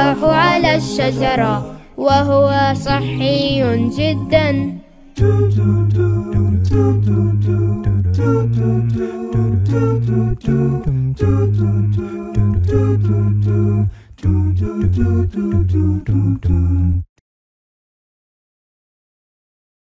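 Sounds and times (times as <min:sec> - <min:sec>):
voices singing a cappella: 0:00.0 - 0:17.0
deep held vocal bass: 0:00.0 - 0:17.1.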